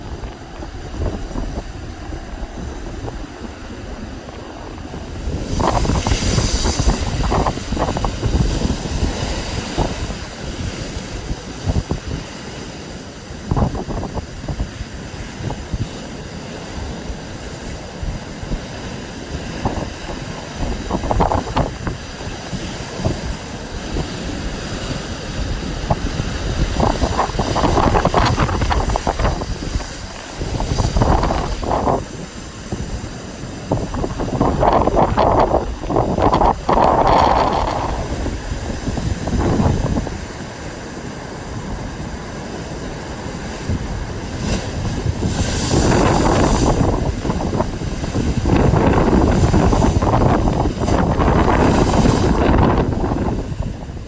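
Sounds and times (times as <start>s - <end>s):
rough sea rushing: 0.0s - 54.0s
wind buffeting microphone: 0.0s - 54.0s.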